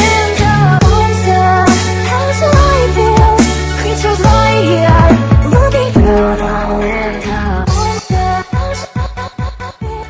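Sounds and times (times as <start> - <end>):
music with choppy thumping beat: 0.0 - 10.0.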